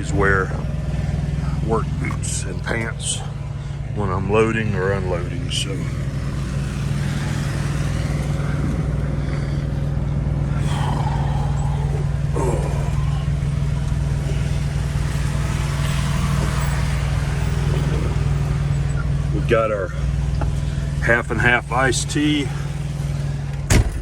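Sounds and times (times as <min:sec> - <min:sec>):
truck diesel engine humming: 0:00.0 - 0:24.0.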